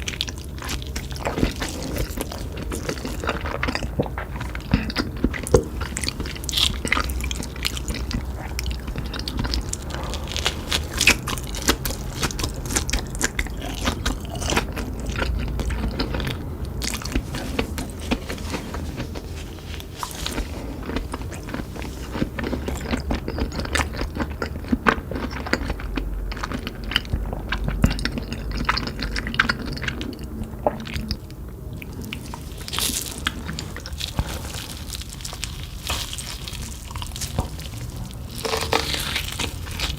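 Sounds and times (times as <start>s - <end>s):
crunching snacks: 0.0s - 39.9s.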